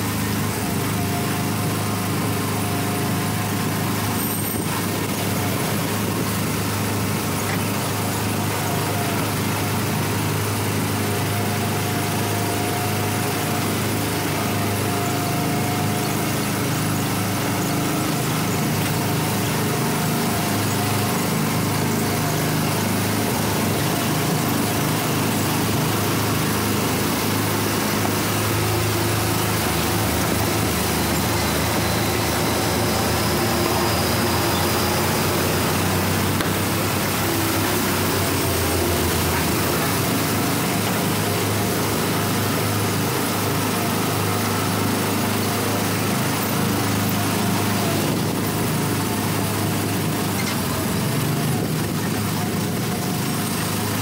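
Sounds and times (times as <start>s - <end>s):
road and air noise: 0.0s - 54.0s
small gasoline engine running: 0.0s - 54.0s.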